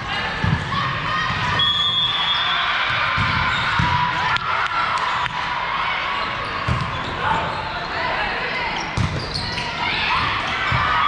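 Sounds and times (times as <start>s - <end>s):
spectators chattering in gymnasium: 0.0s - 11.0s.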